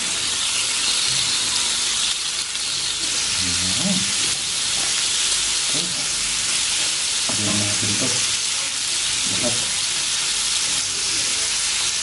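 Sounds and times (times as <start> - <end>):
meat sizzling on a grill pan: 0.0 - 12.0.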